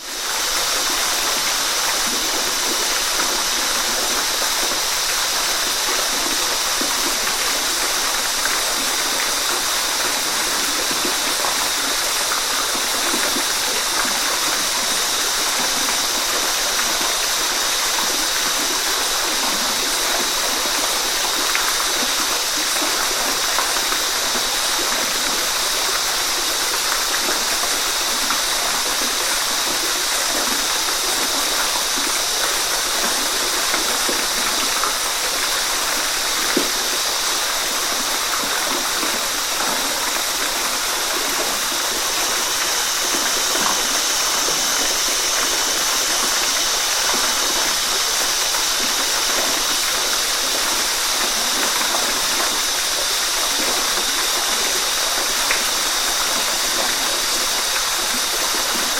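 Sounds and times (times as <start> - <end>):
waterfall rushing water: 0.0 - 58.9.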